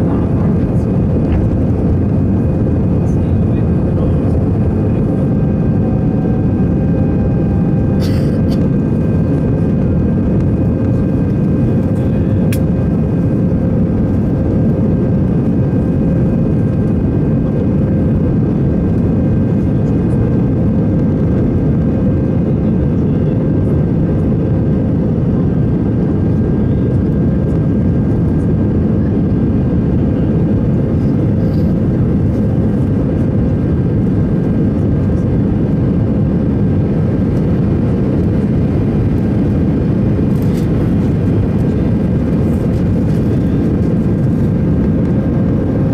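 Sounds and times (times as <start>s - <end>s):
airplane cabin engine and airflow noise: 0.0s - 45.9s.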